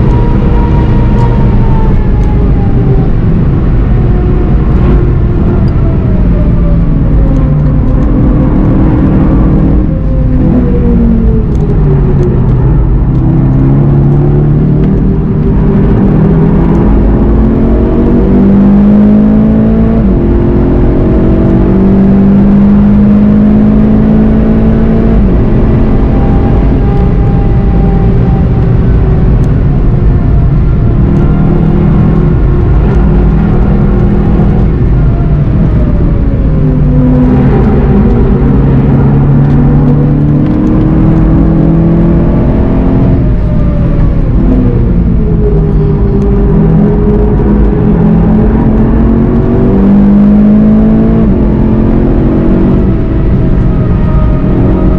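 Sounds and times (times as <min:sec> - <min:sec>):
car engine accelerating and braking: 0:00.0 - 0:54.9.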